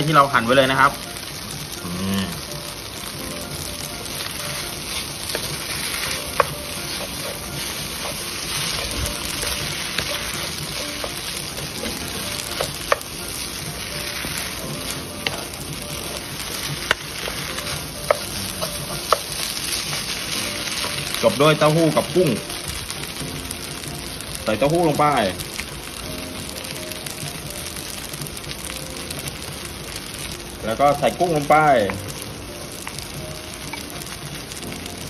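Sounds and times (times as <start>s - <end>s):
noodles sizzling in a frying pan: 0.0s - 35.0s.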